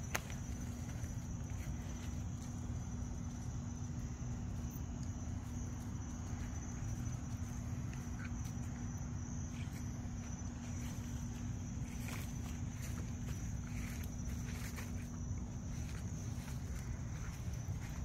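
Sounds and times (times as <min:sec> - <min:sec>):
faint rustles: 0:00.0 - 0:18.0
low hum: 0:00.0 - 0:18.0
night insects chirping: 0:00.0 - 0:18.0.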